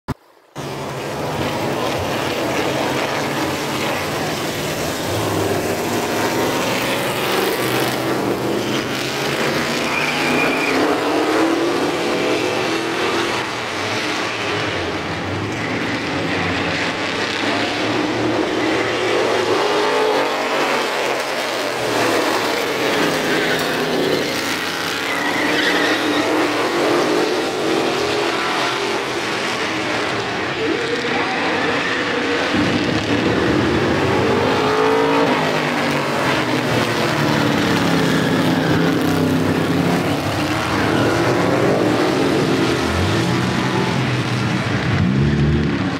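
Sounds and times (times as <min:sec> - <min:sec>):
race car engines: 0:00.0 - 0:45.9.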